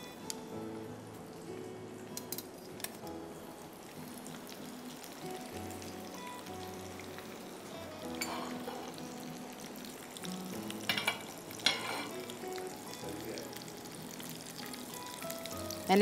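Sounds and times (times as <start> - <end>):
fish fillets sizzling in oil: 0.0 - 16.0.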